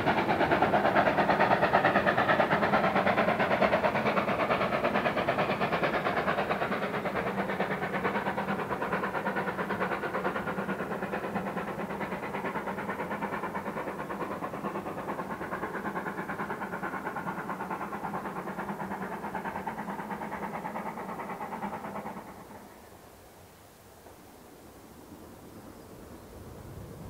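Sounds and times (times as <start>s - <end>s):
passing train running: 0.0s - 27.0s.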